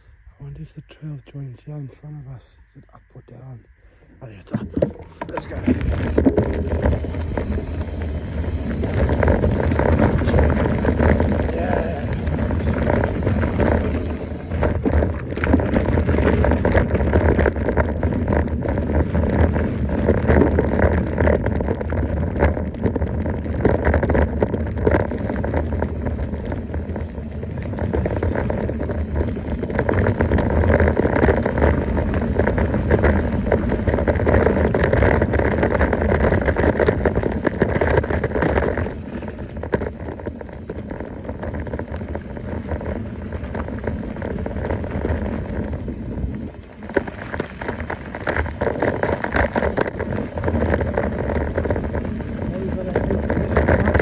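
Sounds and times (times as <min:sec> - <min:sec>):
bike tyres rumbling on dirt: 0:04.2 - 0:54.0
bike rattling and clattering: 0:04.5 - 0:54.0.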